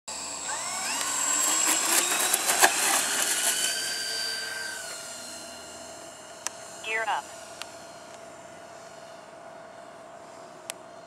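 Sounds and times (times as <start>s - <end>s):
model plane motors whining: 0.1s - 11.0s.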